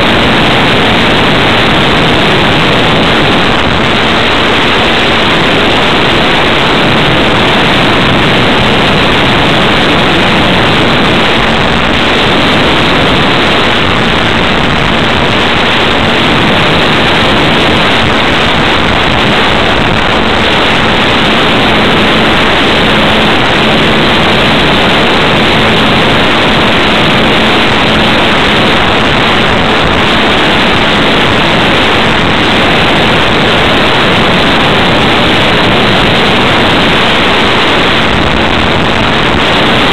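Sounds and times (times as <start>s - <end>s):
airflow rushing: 0.0s - 39.9s
faint steady hum: 0.0s - 39.9s
propeller noise: 0.0s - 39.9s.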